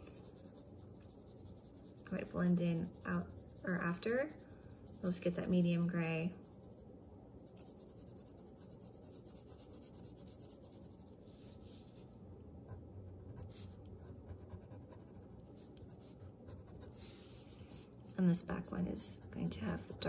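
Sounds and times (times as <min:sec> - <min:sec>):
pencil scratching on paper: 0:00.0 - 0:12.1, 0:12.7 - 0:20.0.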